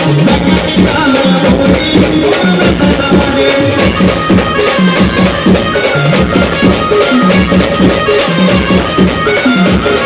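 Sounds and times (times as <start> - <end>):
loud amplified band music: 0.0 - 10.0.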